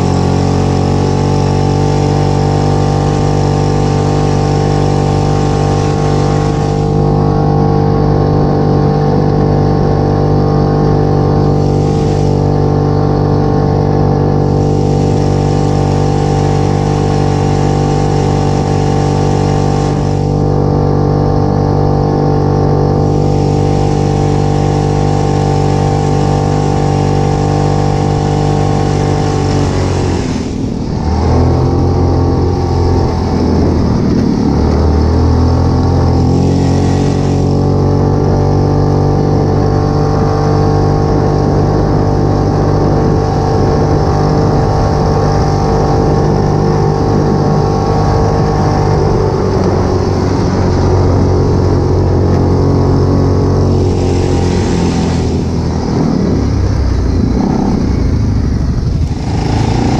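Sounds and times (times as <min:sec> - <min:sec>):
atv engine at high revs: 0:00.0 - 0:59.9.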